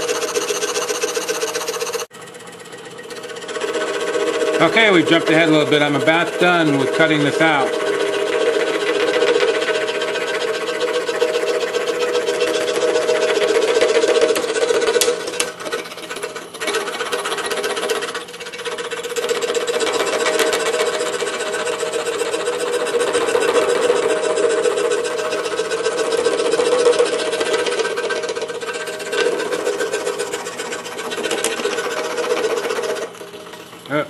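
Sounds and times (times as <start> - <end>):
scroll saw cutting wood: 0.0 - 34.0.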